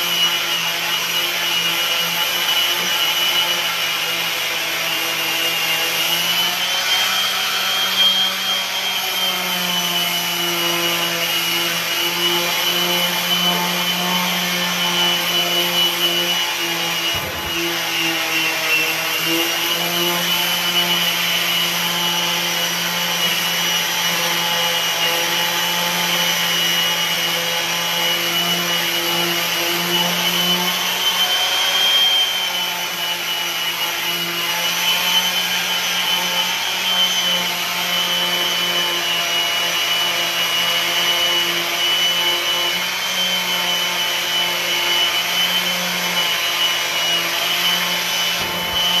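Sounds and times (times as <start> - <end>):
electric power tool motor: 0.0 - 49.0.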